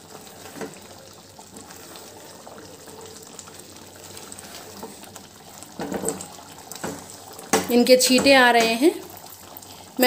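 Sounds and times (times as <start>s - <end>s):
spatula stirring: 0.0s - 9.7s
gravy bubbling and popping: 0.0s - 10.0s.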